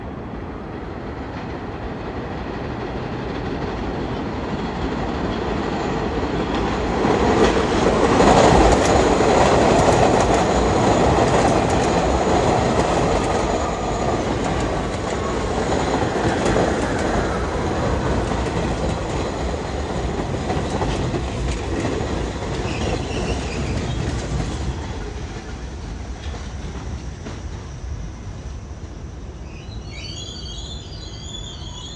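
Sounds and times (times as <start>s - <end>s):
subway train wheels clacking: 0.0s - 31.9s.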